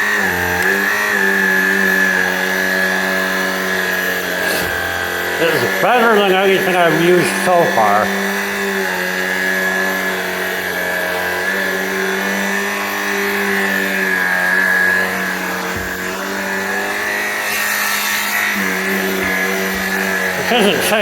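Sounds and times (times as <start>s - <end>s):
stick vacuum whining on carpet: 0.0s - 21.0s.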